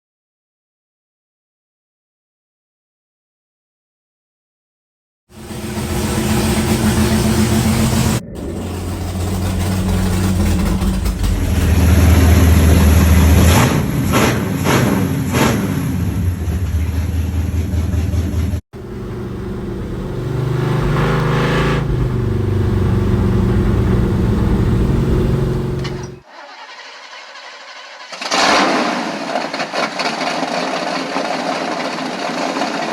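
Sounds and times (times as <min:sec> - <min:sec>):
excavator engine revving: 0:05.3 - 0:32.9.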